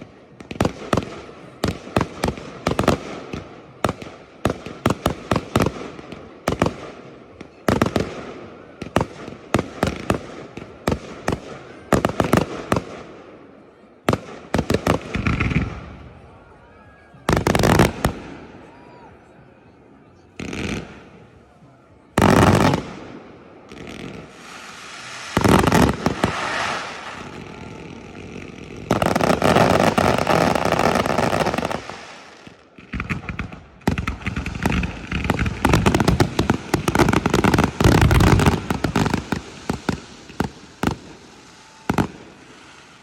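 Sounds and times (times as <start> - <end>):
fireworks bangs: 0.0 - 16.6, 17.2 - 19.0, 20.2 - 43.0.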